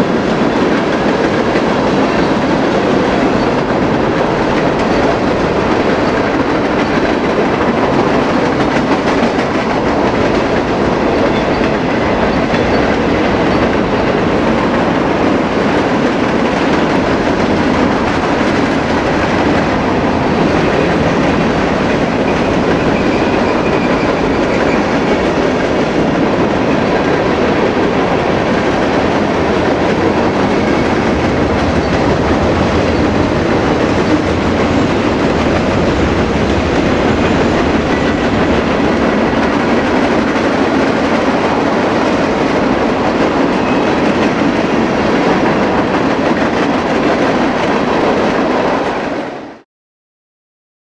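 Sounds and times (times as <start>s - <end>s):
steel train wheels on rails: 0.0s - 49.6s.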